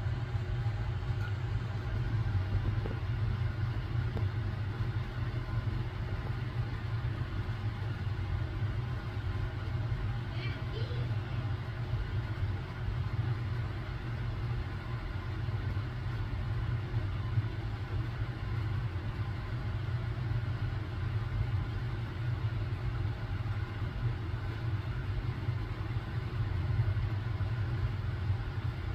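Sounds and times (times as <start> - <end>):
low mechanical rumble: 0.0 - 28.9.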